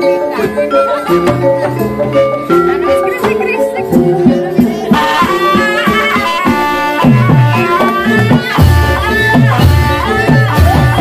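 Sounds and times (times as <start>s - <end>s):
gliding melody line: 0.0s - 11.0s
metal gamelan keys ringing: 0.0s - 11.0s.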